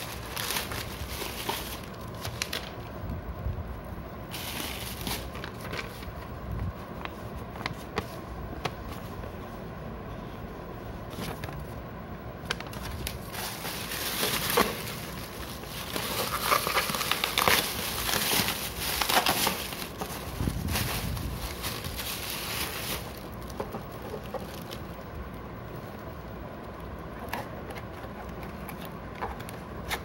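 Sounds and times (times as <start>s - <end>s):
plastic packaging crinkling: 0.0s - 3.0s, 4.2s - 9.2s, 12.4s - 30.0s.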